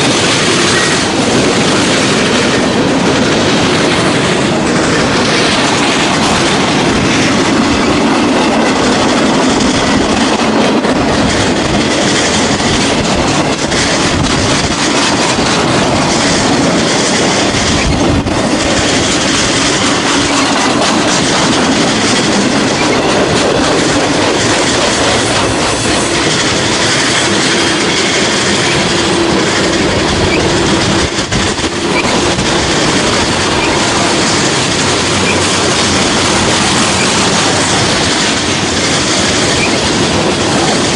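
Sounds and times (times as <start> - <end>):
freight train rumbling past: 0.0 - 40.9
wheels clattering over rail joints: 0.0 - 40.9.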